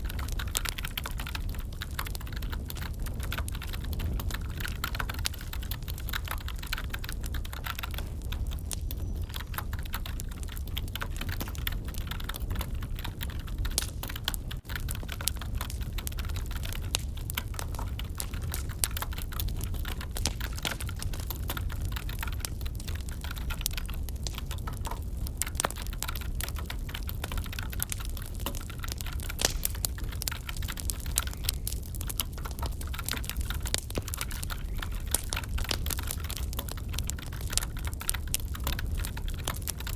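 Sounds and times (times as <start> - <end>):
wood fire crackling: 0.0 - 39.9
keyboard typing: 0.2 - 39.9.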